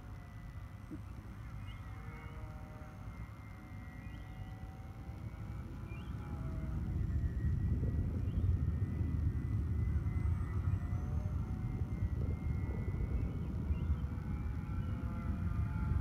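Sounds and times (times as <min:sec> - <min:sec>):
model plane motor whine: 0:00.0 - 0:16.0
wind rumbling on microphone: 0:00.0 - 0:16.0.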